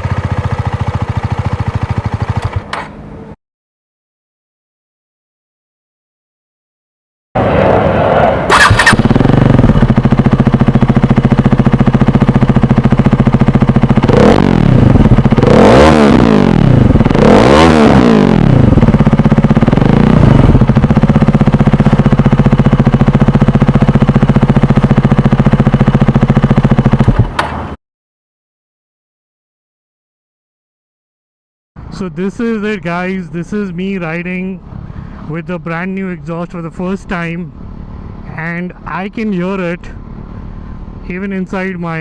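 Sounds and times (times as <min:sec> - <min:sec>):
motorcycle engine idling and revving: 0:00.0 - 0:03.4, 0:07.4 - 0:27.8, 0:31.8 - 0:42.0.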